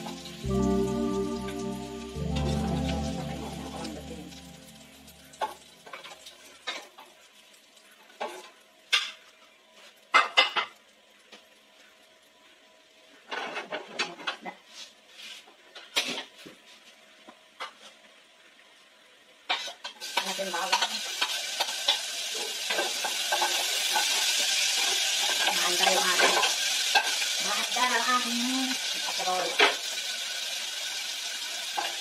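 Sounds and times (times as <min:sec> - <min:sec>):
garlic sizzling in hot oil: 0:00.0 - 0:13.3, 0:17.8 - 0:32.0.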